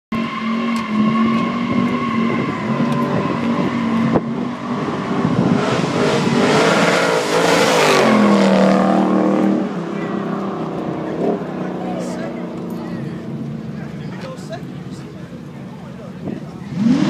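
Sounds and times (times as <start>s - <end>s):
car engine at high revs: 0.1s - 17.0s.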